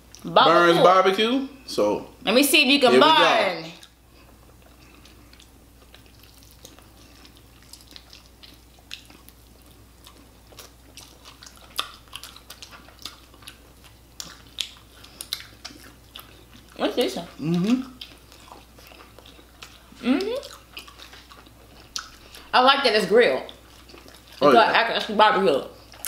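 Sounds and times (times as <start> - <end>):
chewing: 3.7 - 22.5, 23.4 - 26.0.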